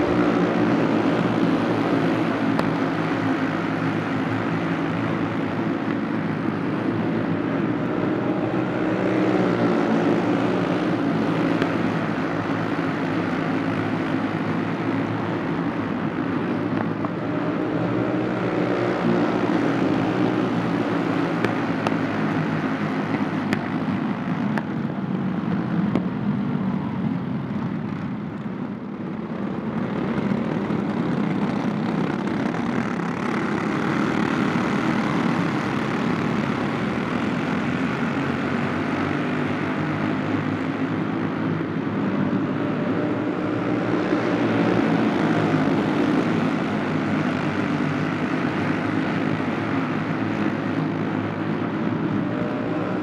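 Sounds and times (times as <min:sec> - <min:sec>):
kart engines buzzing: 0:00.0 - 0:53.0.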